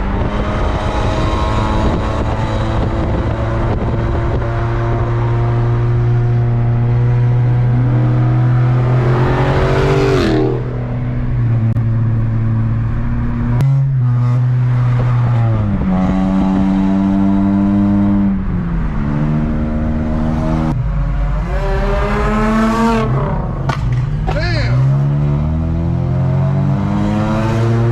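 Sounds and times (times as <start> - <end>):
car engine revving through gears: 0.0 - 11.8, 12.4 - 27.9.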